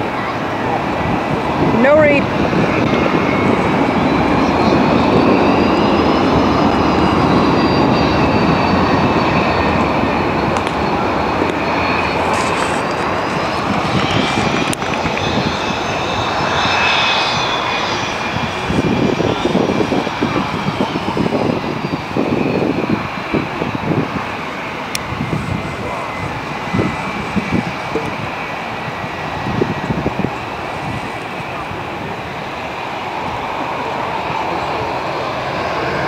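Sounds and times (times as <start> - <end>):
airplane engine droning overhead: 0.0 - 36.0.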